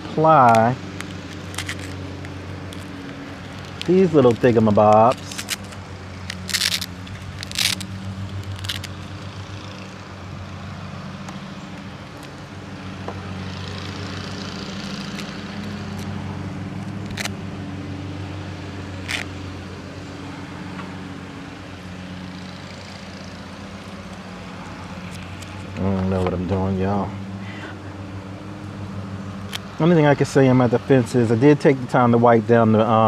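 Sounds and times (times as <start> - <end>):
lawnmower engine humming: 0.0 - 33.0.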